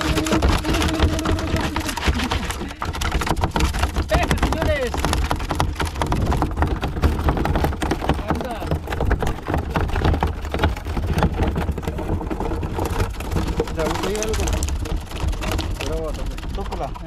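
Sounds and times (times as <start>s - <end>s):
water splashes and knocks: 0.0s - 17.0s
wind: 0.0s - 17.0s.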